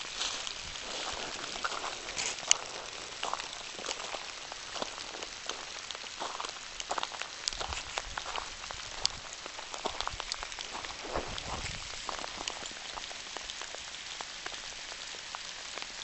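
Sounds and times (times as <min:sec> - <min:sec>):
raindrops ticking close by: 0:00.0 - 0:16.0
steady rain falling: 0:00.0 - 0:16.0.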